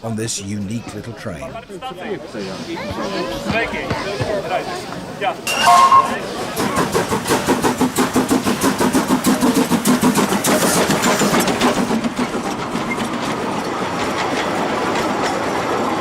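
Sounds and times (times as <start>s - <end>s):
steam train running: 1.4s - 16.0s.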